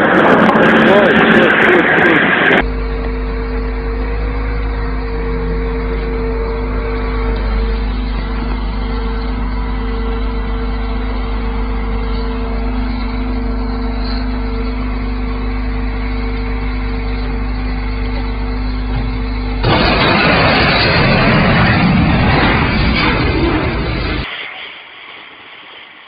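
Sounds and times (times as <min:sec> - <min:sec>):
heavy vehicle engine running: 0:00.0 - 0:24.3.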